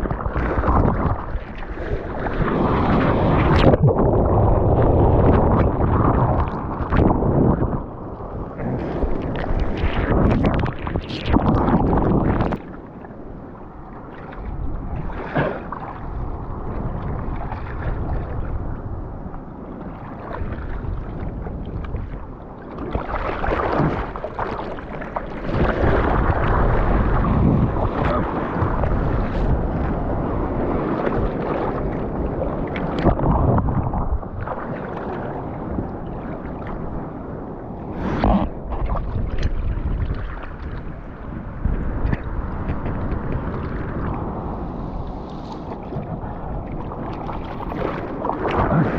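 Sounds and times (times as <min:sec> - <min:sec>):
sea water rushing and splashing: 0:00.0 - 0:48.9
wind buffeting microphone: 0:00.0 - 0:48.9.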